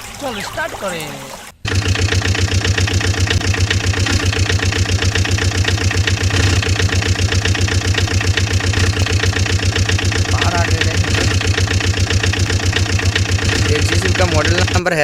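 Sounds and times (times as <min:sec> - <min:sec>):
engine idling: 0:01.6 - 0:15.0.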